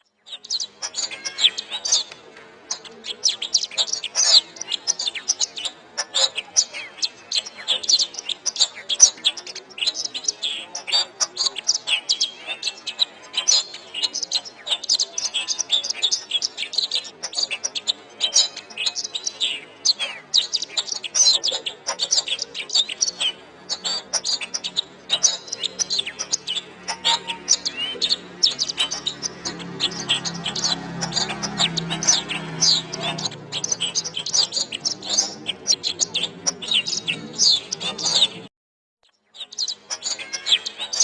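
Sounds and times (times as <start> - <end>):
canary singing: 0.0 - 38.5, 39.1 - 41.0.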